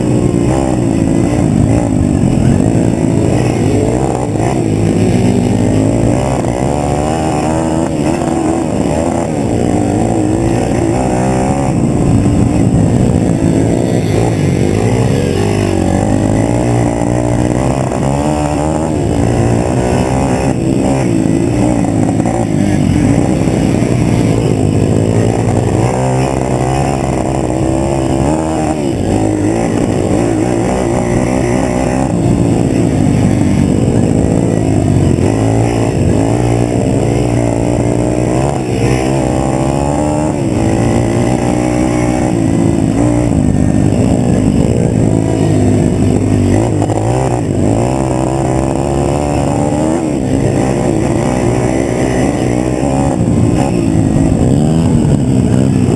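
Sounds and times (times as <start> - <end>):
pit bike engine revving: 0.0 - 55.9.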